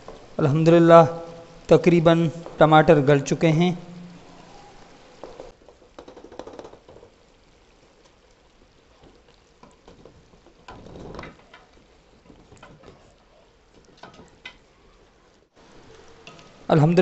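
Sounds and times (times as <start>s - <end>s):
soft sizzle: 0.0s - 17.0s.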